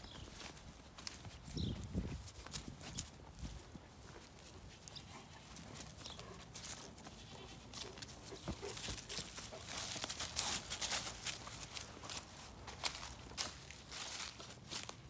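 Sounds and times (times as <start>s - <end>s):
footsteps crunching on ground: 0.0s - 15.0s.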